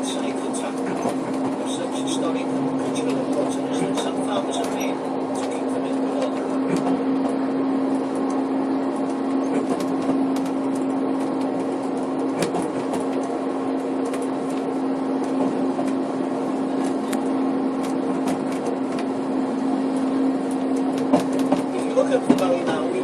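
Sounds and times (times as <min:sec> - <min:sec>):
train drone: 0:00.0 - 0:23.0.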